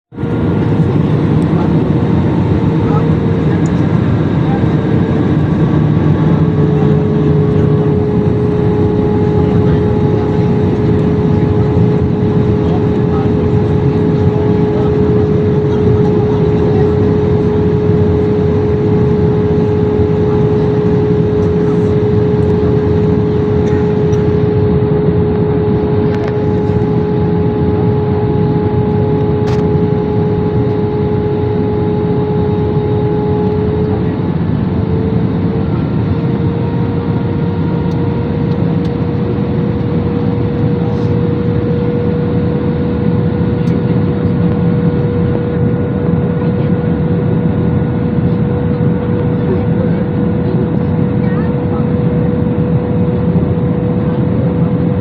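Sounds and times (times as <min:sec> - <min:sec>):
jet airliner cabin noise: 0:00.1 - 0:55.0.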